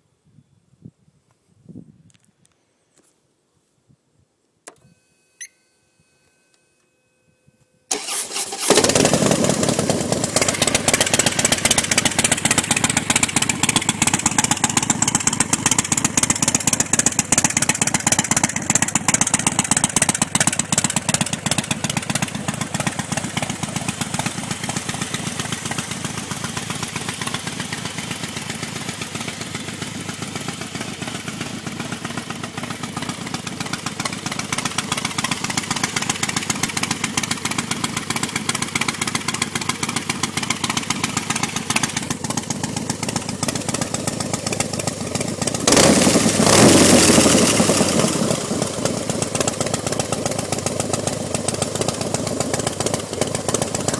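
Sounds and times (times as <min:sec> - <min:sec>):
motorcycle engine idling: 0:08.8 - 0:53.9.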